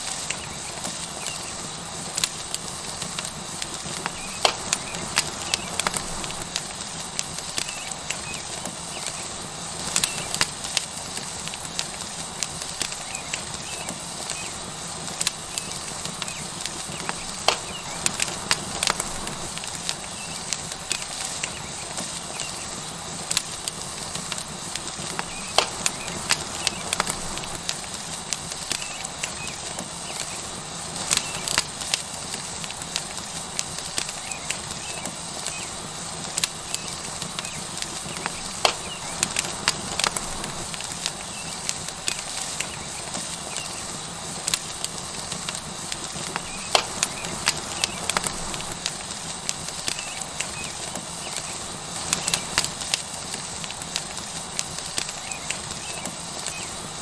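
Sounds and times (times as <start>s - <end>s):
steak sizzling on hot rock: 0.0s - 57.0s
wood fire crackling and popping: 0.0s - 57.0s.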